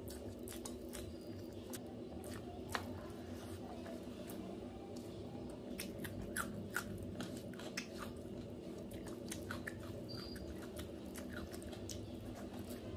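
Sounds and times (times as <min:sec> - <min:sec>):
wet chewing and mouth clicks: 0:00.0 - 0:02.9, 0:05.0 - 0:12.9
steady low hum: 0:00.0 - 0:12.9.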